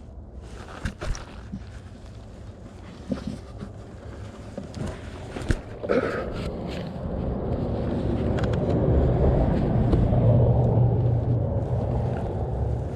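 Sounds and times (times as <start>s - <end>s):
low engine rumble: 0.0s - 12.9s.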